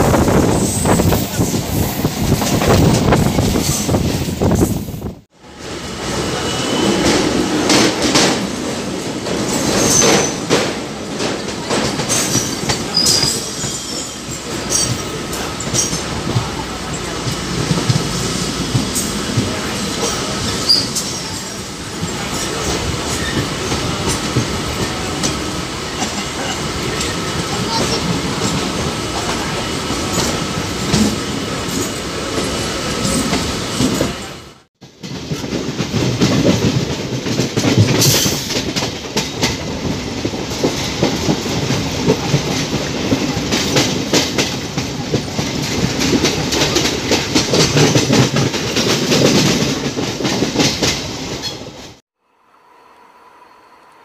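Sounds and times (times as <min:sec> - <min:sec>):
passing train alongside: 0:00.0 - 0:54.0
train wheel and rail noise: 0:00.0 - 0:54.0.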